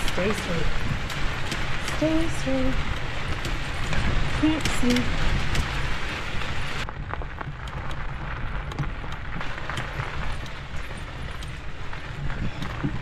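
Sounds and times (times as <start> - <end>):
electric bike rattling: 0.0 - 13.0
low rumble of riding: 0.0 - 13.0.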